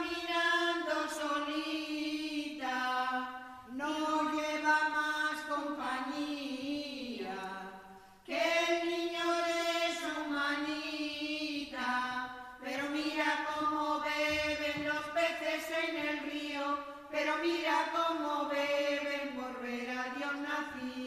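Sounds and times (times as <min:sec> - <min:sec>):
women's choir singing: 0:00.0 - 0:21.0.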